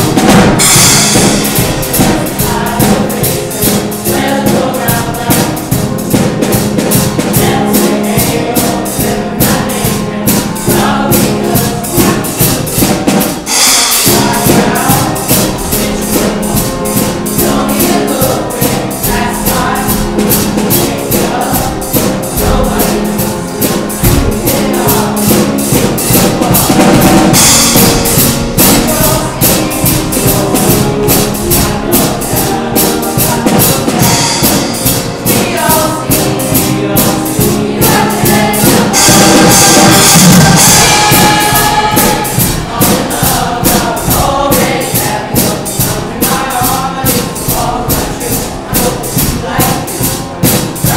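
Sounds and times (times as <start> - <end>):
choir singing: 0.0 - 50.9
steady drum beat: 0.0 - 50.9.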